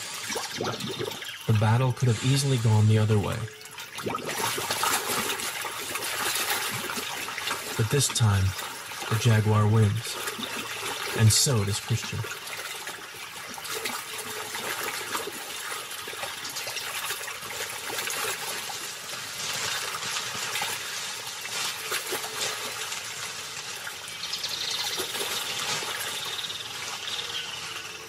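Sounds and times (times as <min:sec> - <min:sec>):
water sloshing and splashing: 0:00.0 - 0:28.0.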